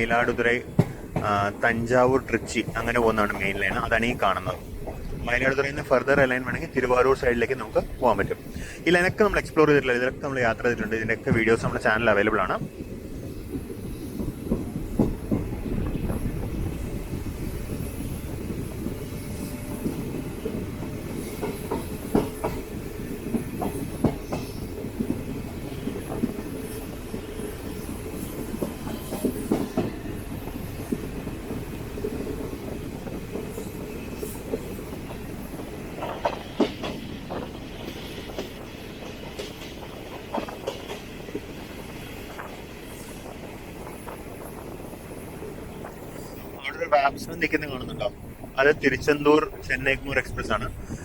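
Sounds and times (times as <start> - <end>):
wheels clacking over rail joints: 0.0 - 8.6, 10.8 - 46.6
train rumbling along track: 0.0 - 51.0.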